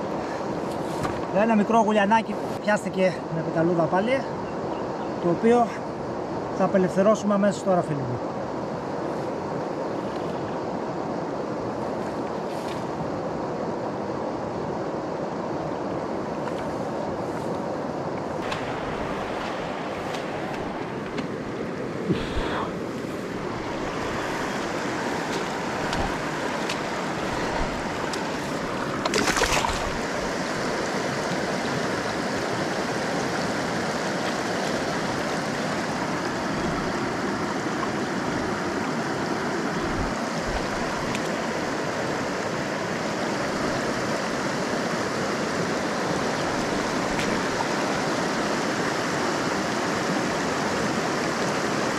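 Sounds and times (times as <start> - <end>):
river water rushing over rocks: 8.4 - 51.9.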